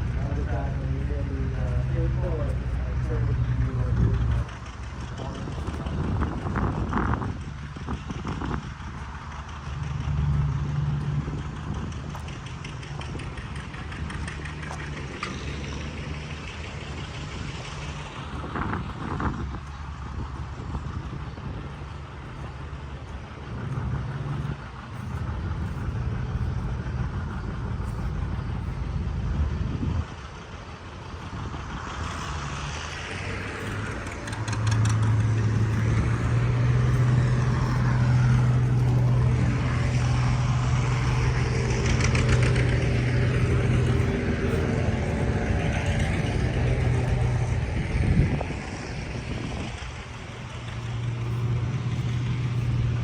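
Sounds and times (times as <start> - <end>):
heavy engine humming: 0.0 - 53.0.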